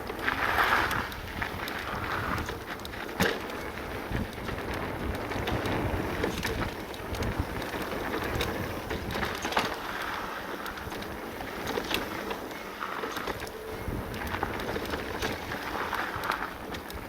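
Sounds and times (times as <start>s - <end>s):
bike knocks and rattles: 0.0s - 17.0s
tyre and wind noise: 0.0s - 17.0s.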